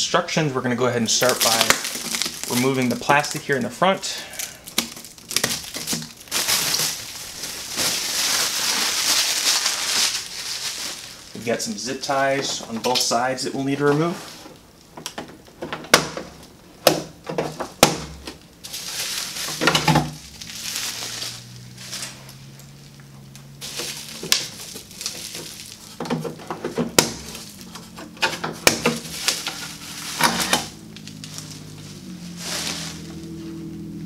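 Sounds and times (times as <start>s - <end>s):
plastic wrap crinkling: 1.1s - 14.9s, 17.5s - 33.6s.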